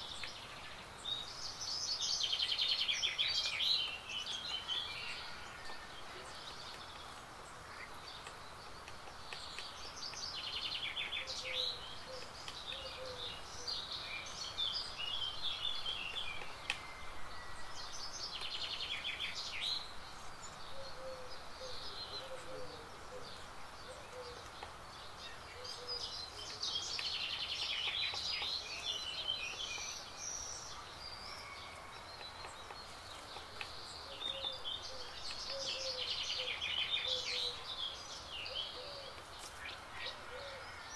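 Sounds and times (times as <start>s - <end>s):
songbirds singing and calling: 0.0s - 40.9s.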